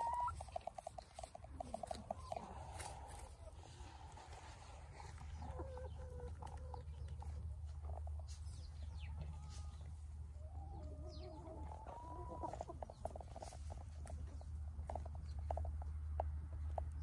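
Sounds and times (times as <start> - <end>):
hens clucking softly: 0.0 - 17.0
pecking and scratching in dry leaves: 0.0 - 17.0.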